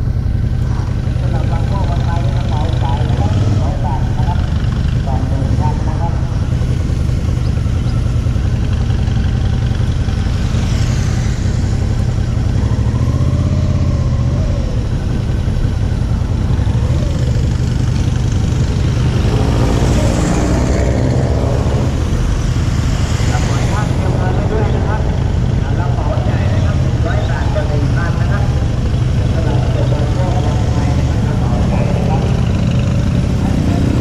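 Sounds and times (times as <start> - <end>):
motorcycle engine rumbling: 0.0 - 34.0.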